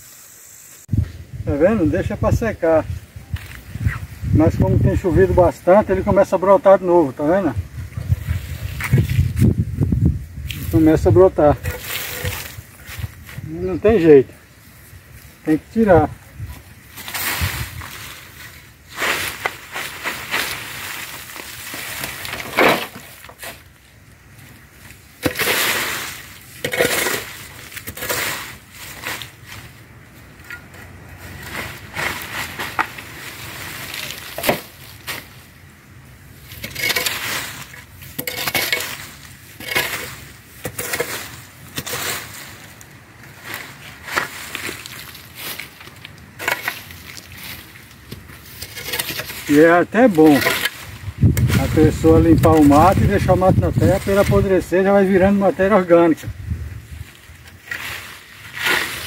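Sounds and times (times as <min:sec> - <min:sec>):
tool scraping leaves across dirt: 0:01.6 - 0:35.6, 0:36.2 - 0:59.0.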